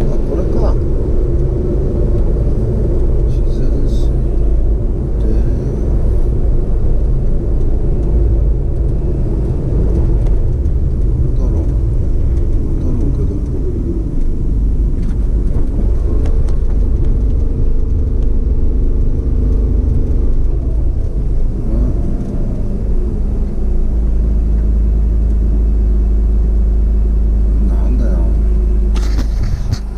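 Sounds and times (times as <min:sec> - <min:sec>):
car engine and tyre rumble: 0:00.0 - 0:29.9.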